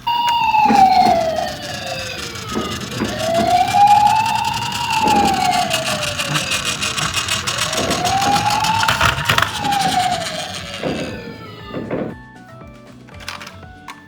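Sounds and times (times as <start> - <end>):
toy siren wailing: 0.0 - 12.1.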